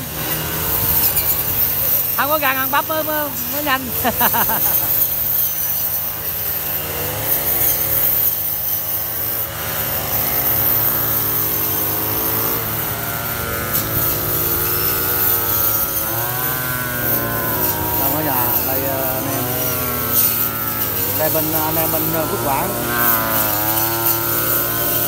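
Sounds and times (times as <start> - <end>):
brush cutters cutting grass: 0.0 - 25.0.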